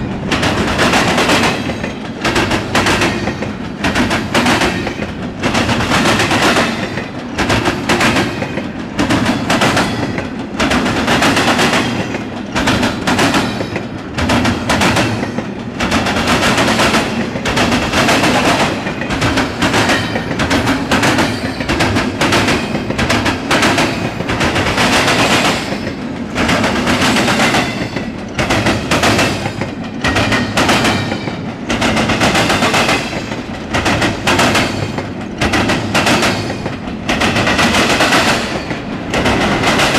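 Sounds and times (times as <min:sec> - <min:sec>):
freight train rumbling past: 0:00.0 - 0:39.9
steel wheels clattering on rails: 0:00.0 - 0:39.9.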